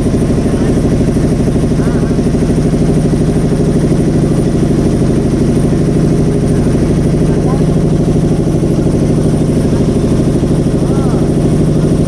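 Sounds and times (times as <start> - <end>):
motorboat engine chugging: 0.0 - 12.0.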